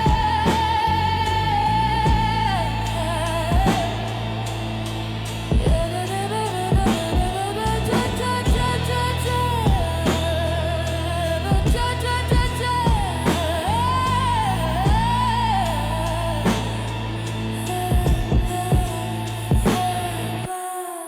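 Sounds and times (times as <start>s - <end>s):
slow drum beat: 0.0s - 20.5s
sustained bass: 0.0s - 20.5s
wavering sung melody: 0.0s - 21.0s.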